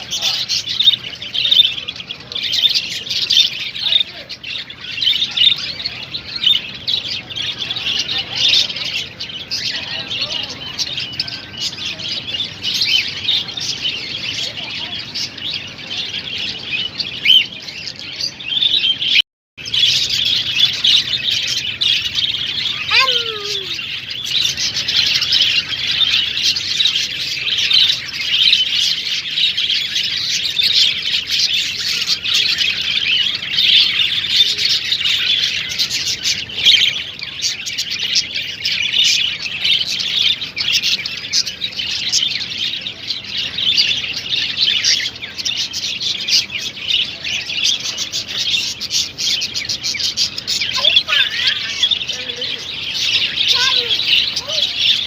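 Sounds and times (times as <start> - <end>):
cage birds chirping and twittering: 0.0 - 55.0.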